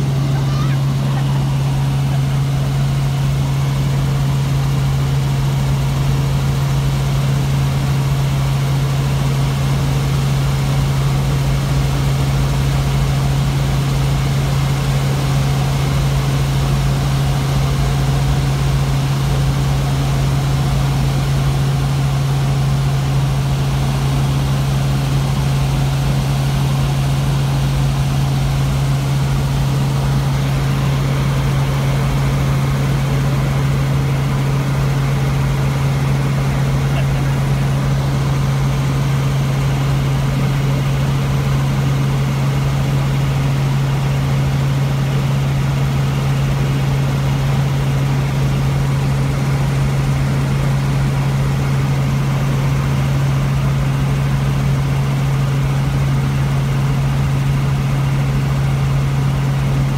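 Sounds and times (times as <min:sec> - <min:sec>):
helicopter engine and rotors droning: 0:00.0 - 0:59.9.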